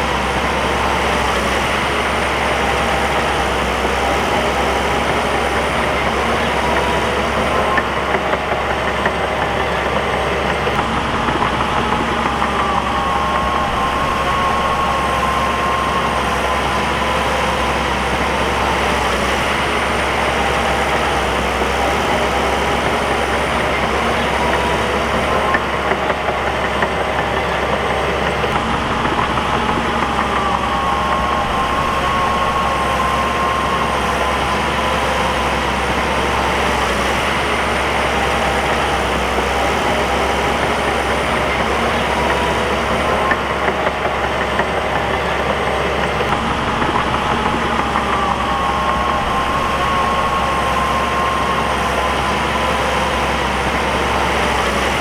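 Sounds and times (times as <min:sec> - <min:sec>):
bulldozer diesel engine running: 0:00.0 - 0:55.0
whining tone: 0:00.0 - 0:55.0.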